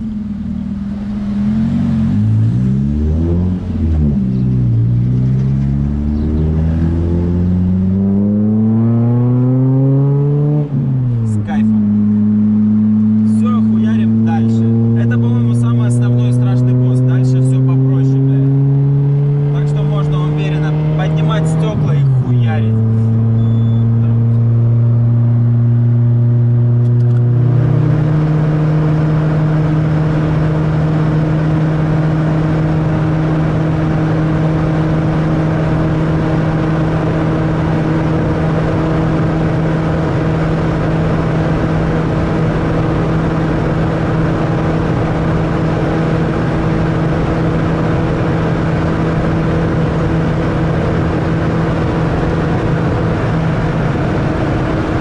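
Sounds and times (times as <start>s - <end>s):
car engine and exhaust drone: 0.0s - 55.0s
road and tyre noise: 0.0s - 55.0s.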